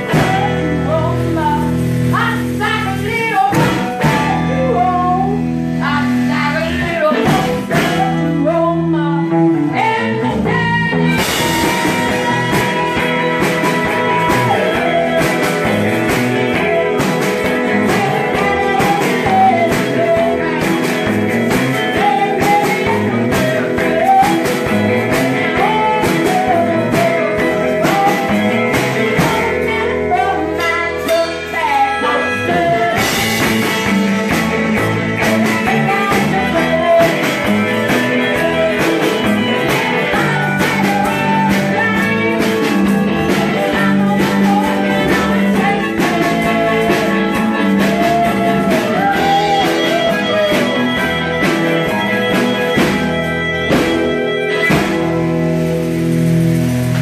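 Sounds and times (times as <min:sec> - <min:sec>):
person singing: 0:00.0 - 0:55.4
rock band music: 0:00.0 - 0:57.0.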